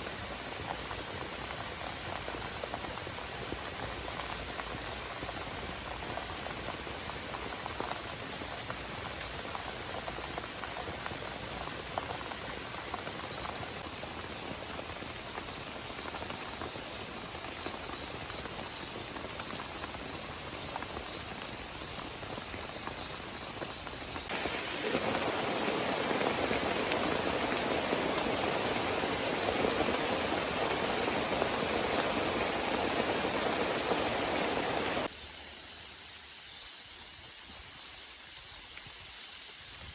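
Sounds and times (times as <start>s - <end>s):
heavy rain falling: 0.0s - 35.1s.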